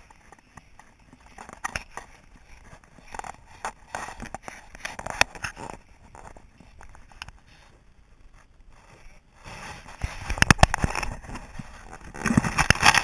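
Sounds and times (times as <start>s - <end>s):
camera rustling: 0.0s - 13.0s.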